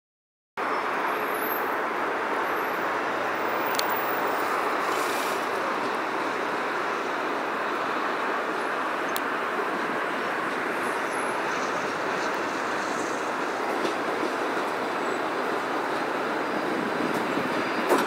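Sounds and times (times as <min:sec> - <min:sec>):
distant traffic rushing: 0:00.6 - 0:18.0.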